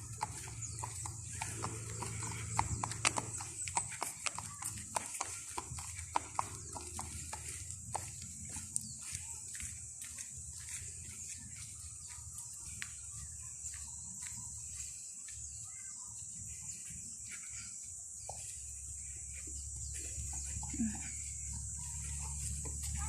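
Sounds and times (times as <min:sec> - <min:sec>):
bird calls: 0:00.0 - 0:23.0.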